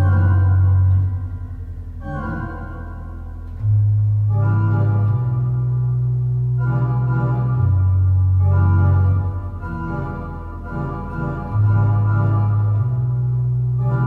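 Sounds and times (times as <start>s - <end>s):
church organ chords: 0.0s - 14.0s.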